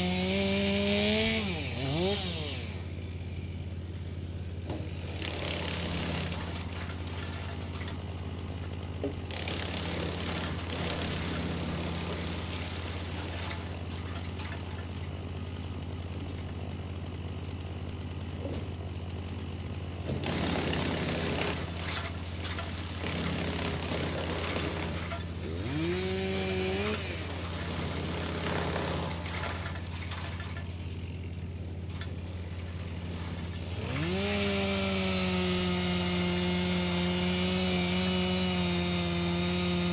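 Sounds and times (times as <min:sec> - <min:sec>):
rough wood chipping noise: 0:00.0 - 0:39.9
wood chipper engine drone: 0:00.0 - 0:39.9.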